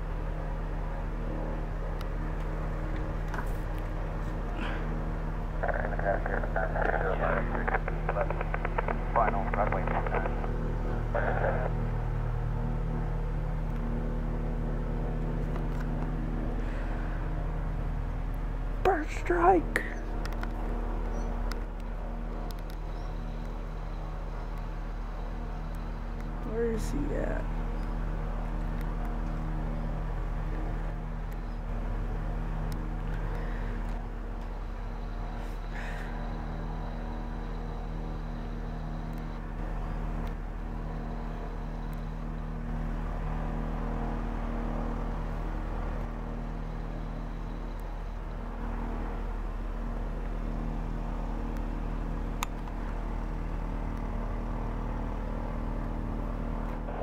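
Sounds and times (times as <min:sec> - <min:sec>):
engine running with low hum: 0:00.0 - 0:57.0.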